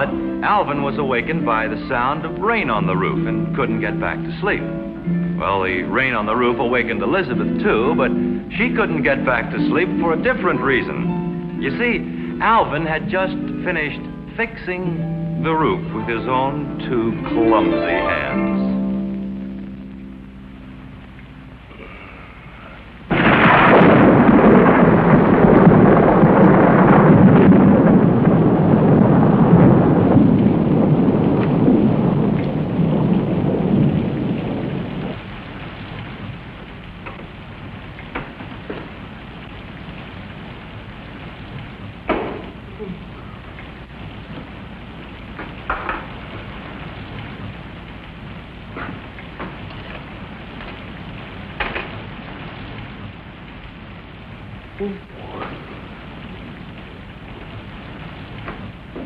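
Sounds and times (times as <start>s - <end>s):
thunder crash: 0.0s - 19.0s, 23.0s - 54.8s
rumbling thunder: 0.0s - 20.0s, 20.6s - 59.0s
heavy rain: 0.0s - 59.0s.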